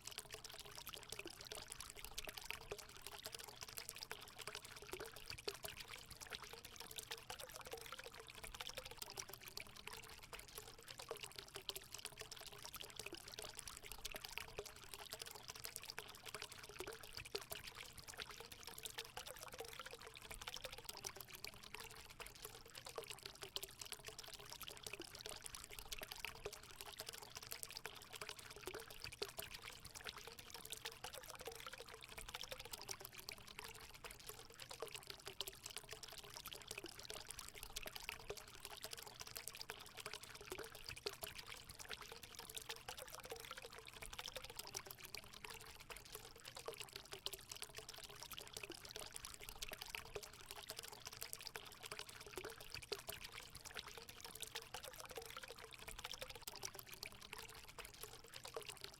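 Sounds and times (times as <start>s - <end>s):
water trickling and gurgling: 0.0s - 58.9s.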